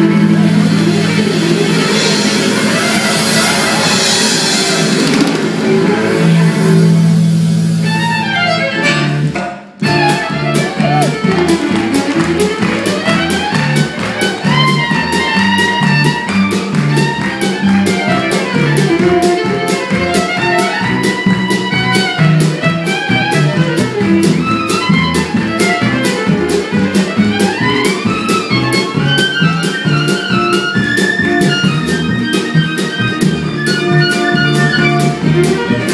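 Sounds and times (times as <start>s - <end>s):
acoustic string band playing: 0.0s - 35.9s
fiddle melody: 0.0s - 35.9s.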